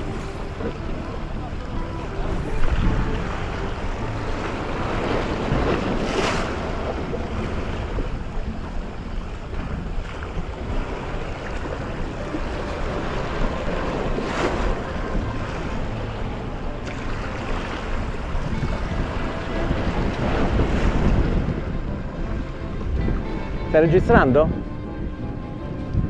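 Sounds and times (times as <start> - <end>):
waves breaking against rocks: 0.0 - 24.5
wind rumbling on microphone: 0.0 - 26.0.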